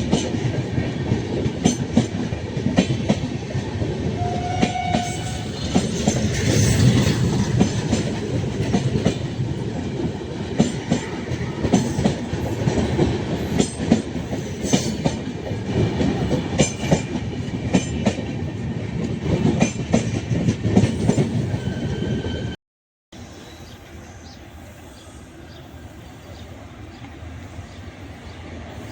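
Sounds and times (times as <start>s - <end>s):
train rumble on track: 0.0s - 22.6s, 23.2s - 28.9s.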